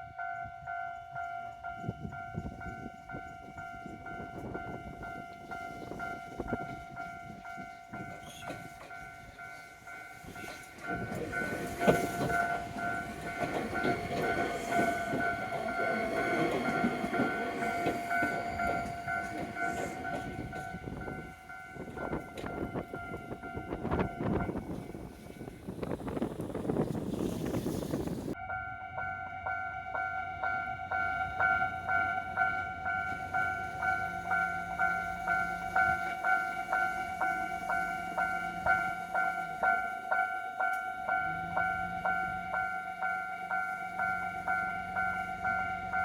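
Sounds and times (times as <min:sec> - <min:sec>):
level-crossing bell clanging: 0:00.0 - 0:25.8, 0:28.3 - 0:46.0
train rumble with wheel clatter: 0:00.0 - 0:46.0.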